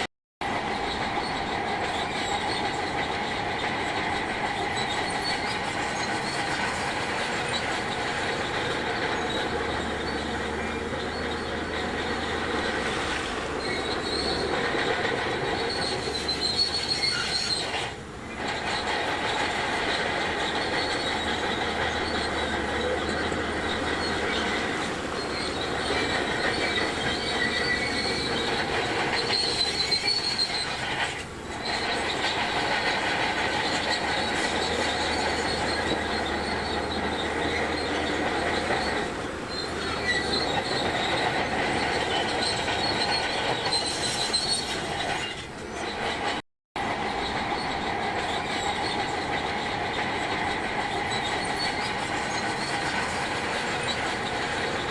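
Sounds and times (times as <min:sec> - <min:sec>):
steel tracks squealing and clanking: 0:00.0 - 0:54.9
bulldozer engine running: 0:00.4 - 0:46.2.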